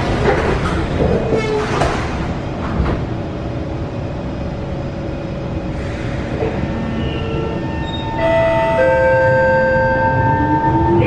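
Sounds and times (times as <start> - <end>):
low rumble of train equipment: 0.0 - 11.0.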